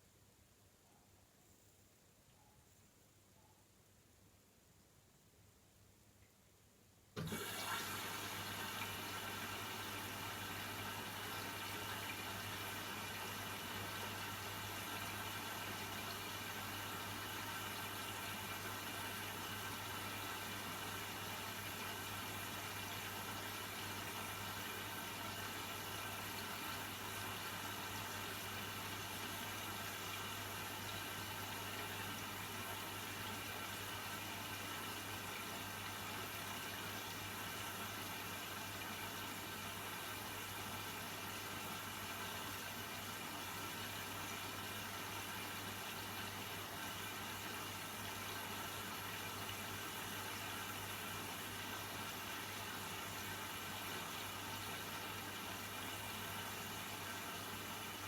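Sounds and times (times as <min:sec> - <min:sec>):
washing machine low hum: 0:07.2 - 0:58.0
water running in washing machine: 0:07.2 - 0:58.0.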